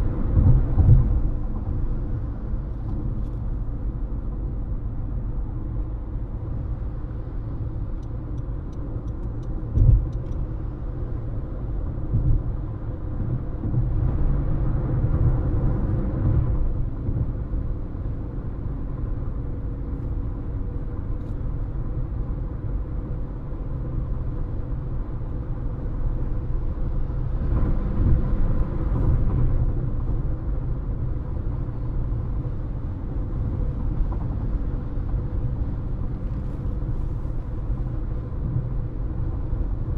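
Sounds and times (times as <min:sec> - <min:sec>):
car driving at highway speed: 0:00.0 - 0:39.9.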